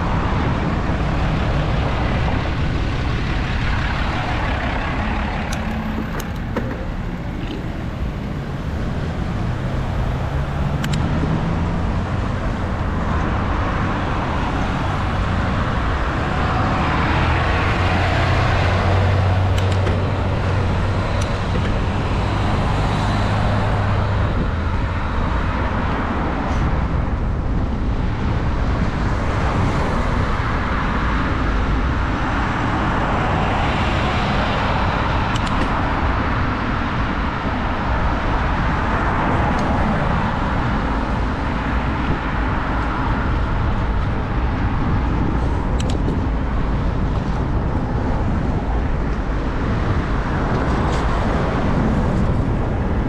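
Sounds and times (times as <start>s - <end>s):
cars going by: 0.0s - 53.0s
low engine hum: 0.0s - 53.0s.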